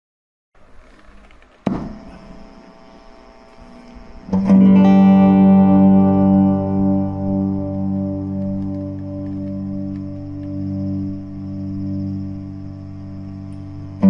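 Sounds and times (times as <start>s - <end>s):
electric guitar note and chord: 1.7s - 14.0s.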